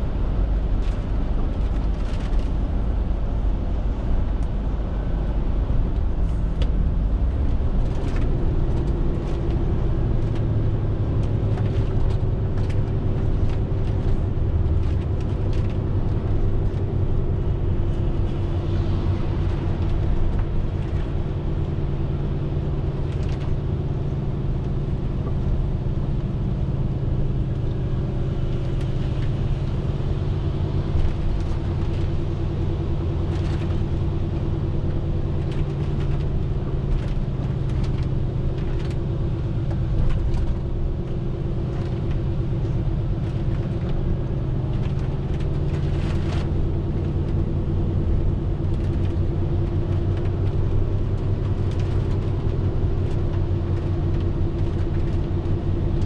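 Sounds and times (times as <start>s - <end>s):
diesel lorry engine driving: 0.0s - 56.0s.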